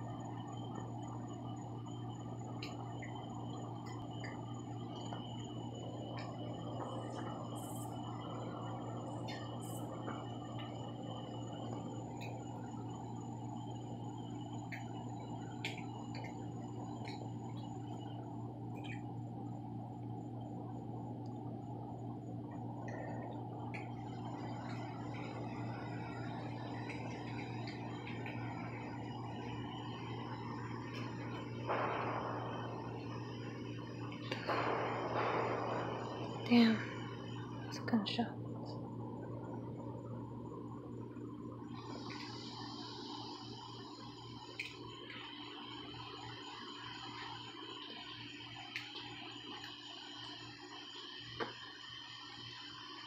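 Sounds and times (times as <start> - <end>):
constant low hum: 0.0 - 53.0
faint high steady tones: 0.0 - 53.0.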